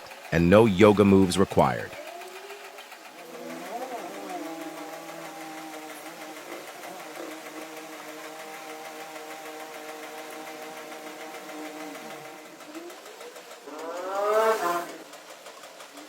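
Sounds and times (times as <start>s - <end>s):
small electric motor running: 2.0s - 16.0s.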